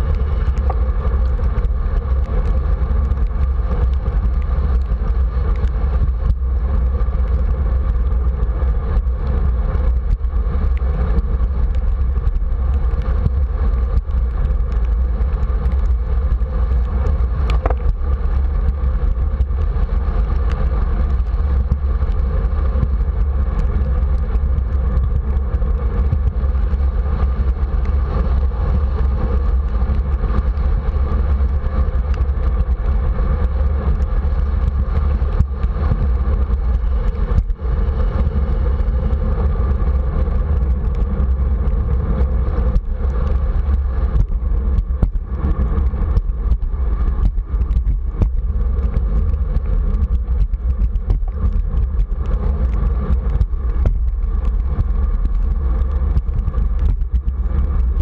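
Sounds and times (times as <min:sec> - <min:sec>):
bicycle tyres on wet pavement: 0:00.0 - 0:58.0
wind rumble on microphone: 0:00.0 - 0:58.0.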